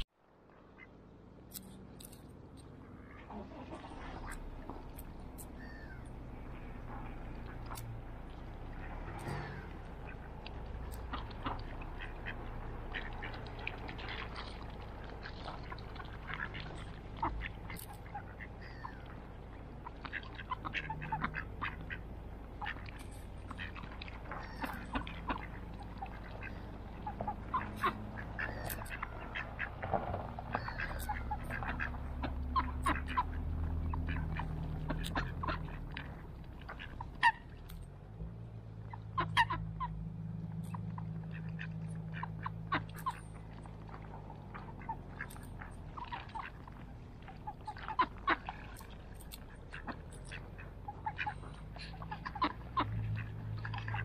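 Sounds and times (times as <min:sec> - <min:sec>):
ducks quacking: 0:02.8 - 0:37.6, 0:38.8 - 0:54.0.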